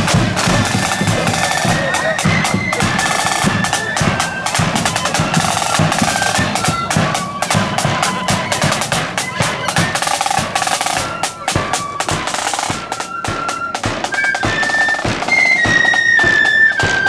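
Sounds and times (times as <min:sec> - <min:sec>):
flutes playing high melody: 0:00.0 - 0:17.0
snare and bass drums marching: 0:00.0 - 0:17.0.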